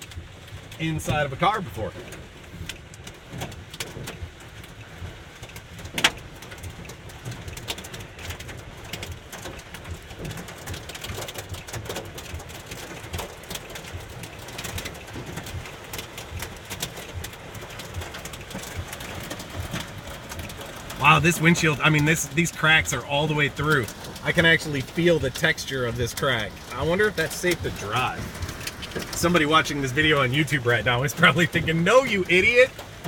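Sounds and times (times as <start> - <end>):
hailstones hitting car hood: 0.0 - 33.0
heavy rain hiss: 0.5 - 2.7, 7.3 - 33.0.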